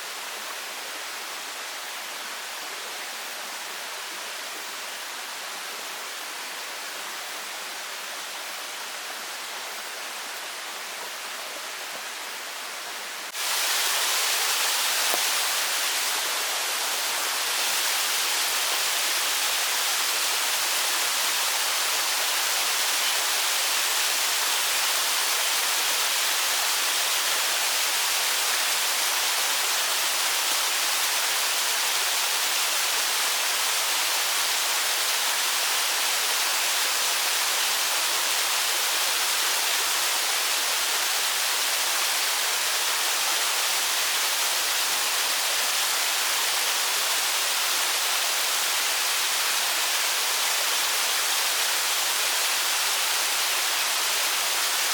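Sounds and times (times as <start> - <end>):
stream flowing over rocks: 0.0 - 54.9.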